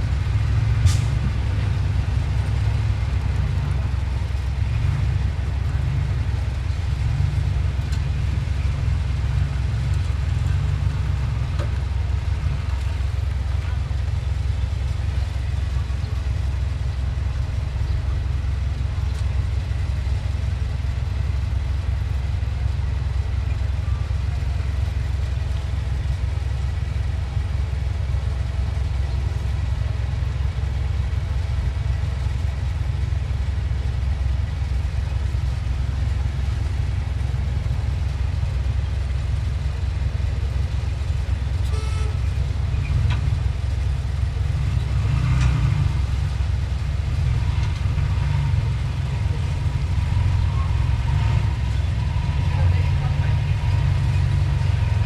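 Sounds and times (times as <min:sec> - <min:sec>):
diesel machinery rumbling: 0:00.0 - 0:55.0.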